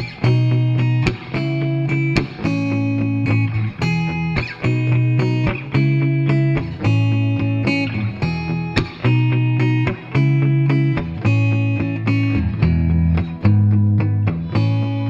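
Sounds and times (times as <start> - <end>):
plucked guitar chords: 0.0 - 15.0
sustained bass: 0.0 - 15.0.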